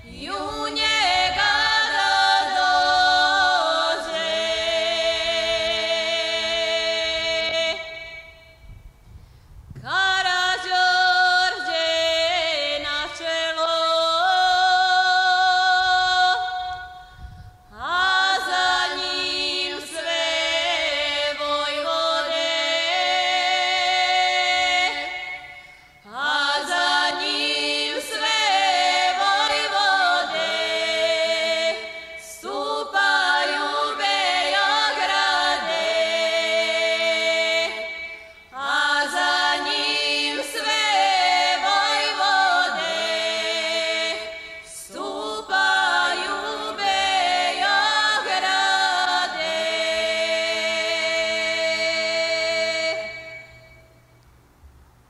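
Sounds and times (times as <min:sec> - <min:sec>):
women singing a cappella: 0:00.0 - 0:08.7, 0:09.8 - 0:54.1.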